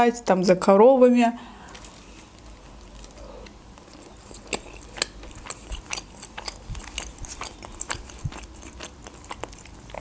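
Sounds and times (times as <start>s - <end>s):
person chewing food: 1.6s - 10.0s.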